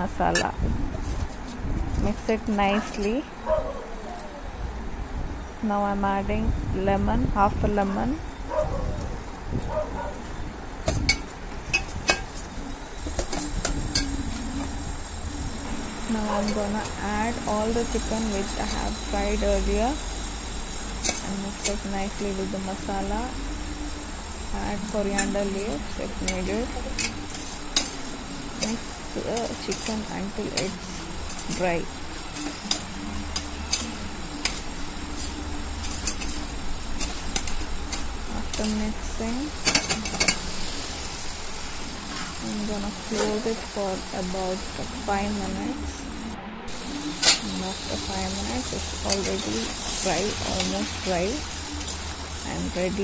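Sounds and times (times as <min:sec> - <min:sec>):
low steady hum: 0:00.0 - 0:53.0.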